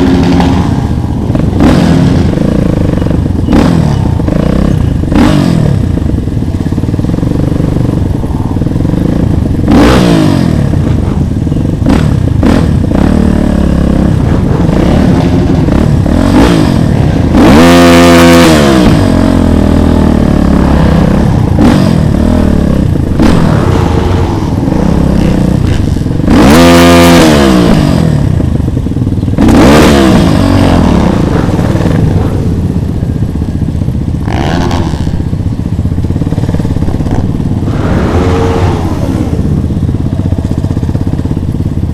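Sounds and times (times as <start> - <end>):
small motorcycle engines revving: 0.0 - 41.9.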